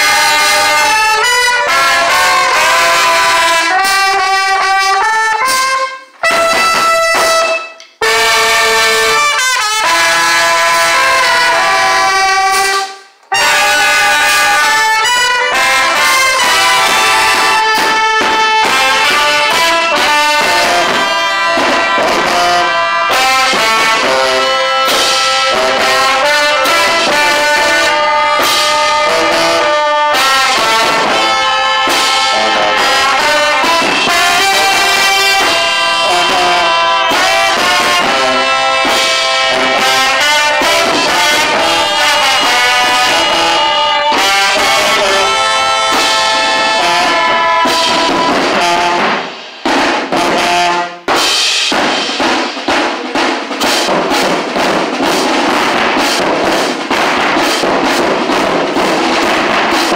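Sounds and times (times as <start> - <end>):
drums: 0.0 - 59.9
marching band brass playing: 0.0 - 59.9.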